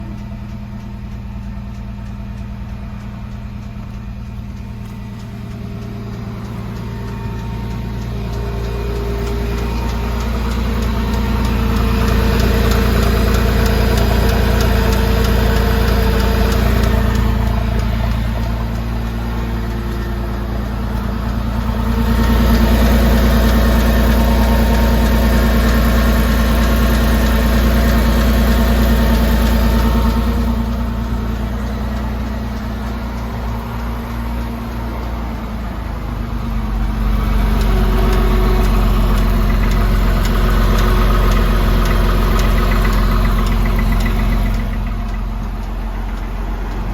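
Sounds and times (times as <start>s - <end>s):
abnormal engine noise: 0.0s - 46.9s
car engine running: 0.0s - 46.9s.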